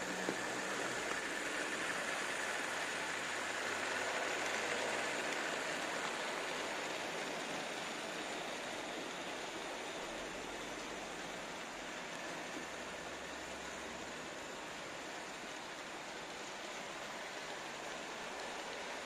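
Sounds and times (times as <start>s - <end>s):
model train rolling whir: 0.0s - 19.0s.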